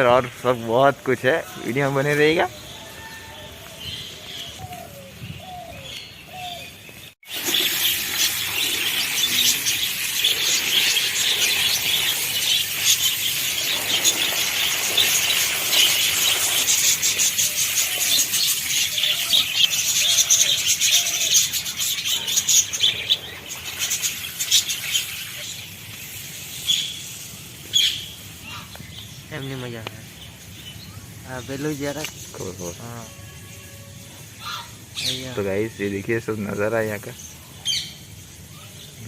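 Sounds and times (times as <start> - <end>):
flock of small birds chirping: 0.0 - 39.0.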